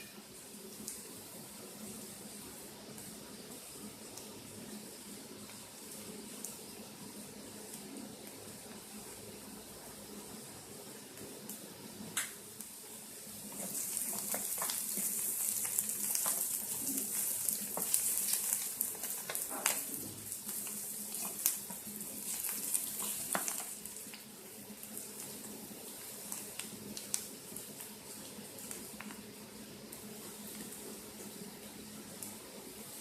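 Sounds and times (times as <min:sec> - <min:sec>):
onions sizzling in a pan: 0:00.0 - 0:33.0.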